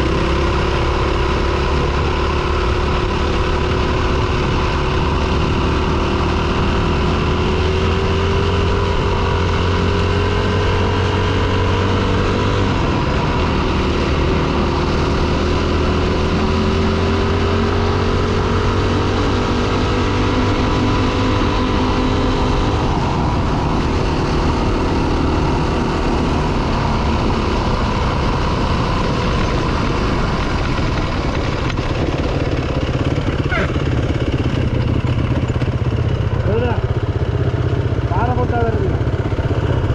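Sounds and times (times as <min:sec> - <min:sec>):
dirt bike engine running: 0:00.0 - 0:39.9
steady rushing noise: 0:00.0 - 0:39.9.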